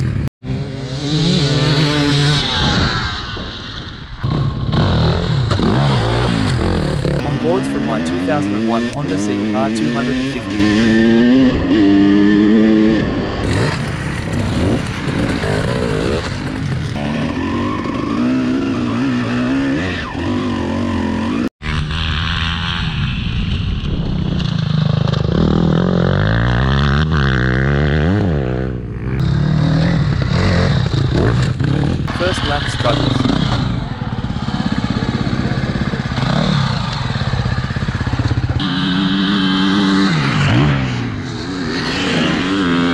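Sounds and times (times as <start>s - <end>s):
two-stroke engine revving: 0.0s - 2.8s, 4.2s - 42.9s
dirt bikes revving: 0.0s - 42.9s.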